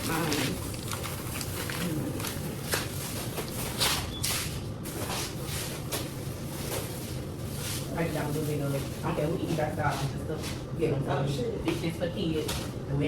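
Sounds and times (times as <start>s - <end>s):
rustling and handling noises: 0.0s - 10.7s.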